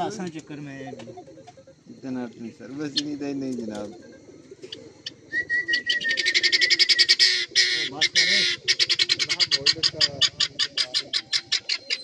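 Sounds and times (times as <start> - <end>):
rapid run of bird chirps: 0.6 - 12.0.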